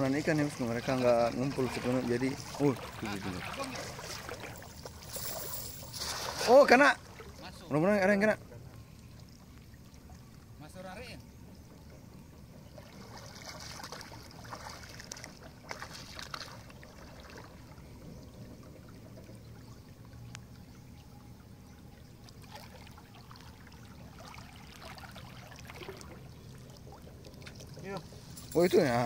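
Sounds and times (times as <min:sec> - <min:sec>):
water splashing and sloshing: 0:00.0 - 0:29.0
water trickling: 0:00.0 - 0:29.0.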